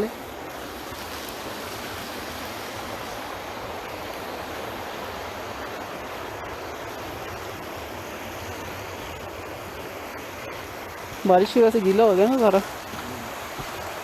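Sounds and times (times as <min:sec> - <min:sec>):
mountain stream running water: 0:00.0 - 0:14.0.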